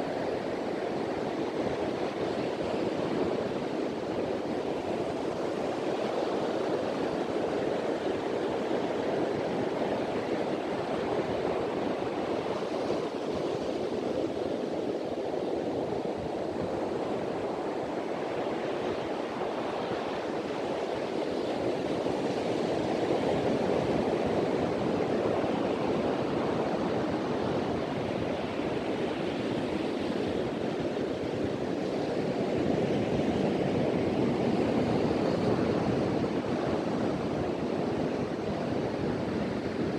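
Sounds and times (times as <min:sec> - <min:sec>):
surf washing onto beach: 0:00.0 - 0:39.9
wind: 0:00.0 - 0:39.9.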